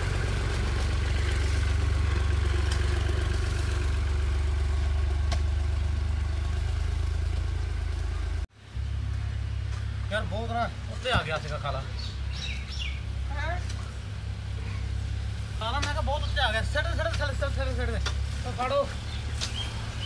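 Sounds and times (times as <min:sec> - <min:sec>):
engine droning steadily: 0:00.0 - 0:20.0.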